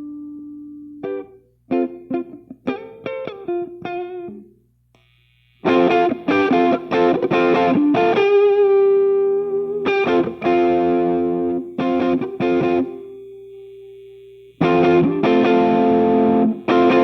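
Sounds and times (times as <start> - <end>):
distorted guitar chords: 0.0 - 4.4, 5.0 - 17.0
electric guitar single notes: 0.0 - 4.4, 5.6 - 17.0.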